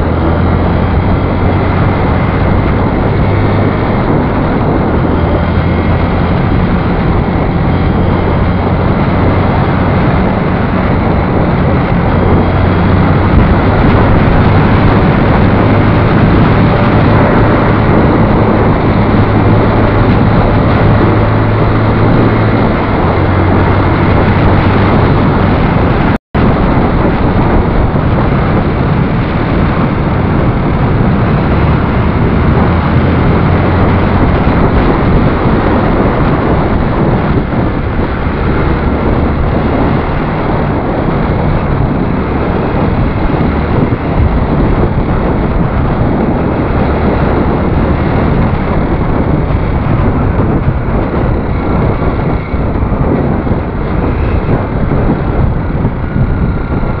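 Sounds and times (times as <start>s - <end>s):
motorcycle engine: 0.0s - 57.0s
road noise: 0.0s - 57.0s
wind rushing over microphone: 0.0s - 57.0s.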